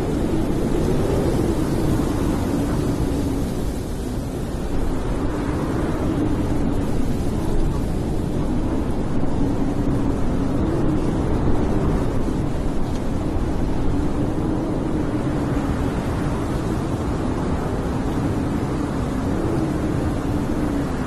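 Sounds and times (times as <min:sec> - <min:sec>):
snowstorm wind blowing: 0:00.0 - 0:21.0.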